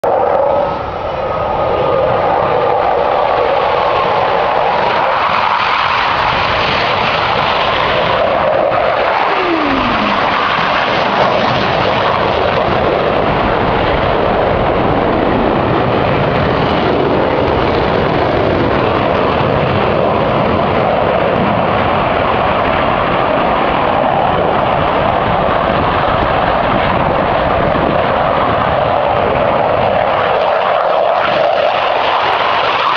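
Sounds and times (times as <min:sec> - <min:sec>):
jet engines roaring: 0:00.0 - 0:32.9.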